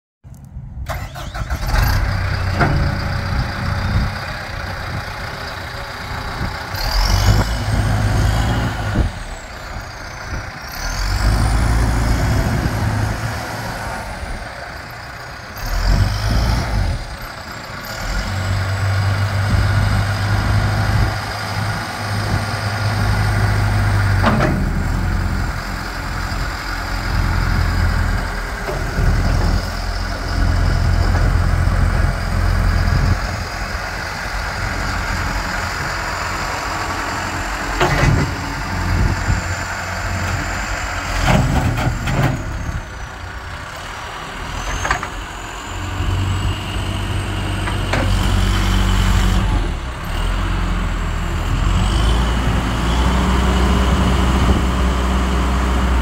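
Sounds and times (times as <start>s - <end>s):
diesel engine revving: 0.8s - 56.0s.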